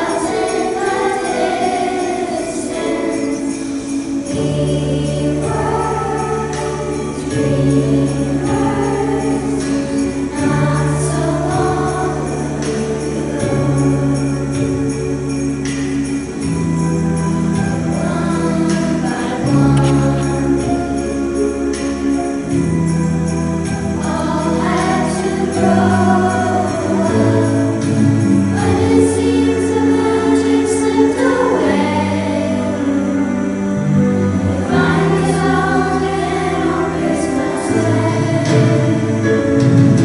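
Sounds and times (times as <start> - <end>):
jingle bells shaking: 0.0 - 33.7
choir singing: 0.0 - 40.0
instrumental accompaniment: 0.0 - 40.0.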